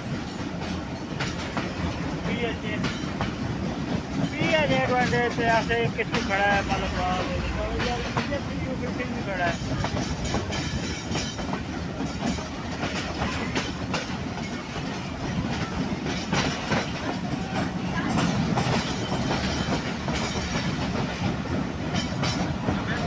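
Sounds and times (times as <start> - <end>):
passenger train rumbling: 0.0 - 23.0
wheels clacking over rail joints: 0.0 - 23.0.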